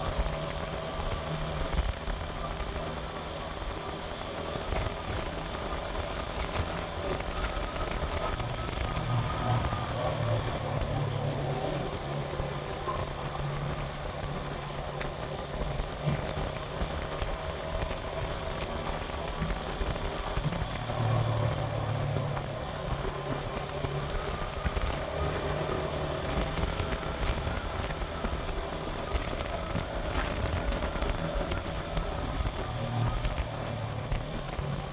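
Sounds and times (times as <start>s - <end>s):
motorcycle engine running: 0.0s - 34.9s
road noise: 0.0s - 34.9s
wind noise: 0.0s - 34.9s.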